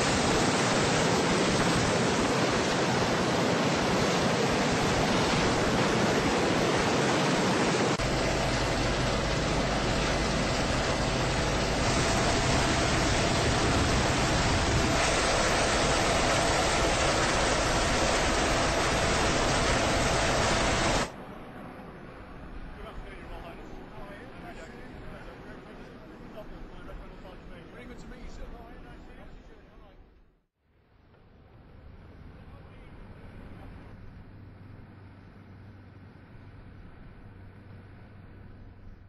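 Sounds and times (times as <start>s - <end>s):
helicopter rotor and turbine noise: 0.0s - 29.6s, 31.1s - 39.0s
helicopter cabin hum and whine: 0.0s - 29.8s, 31.1s - 39.0s.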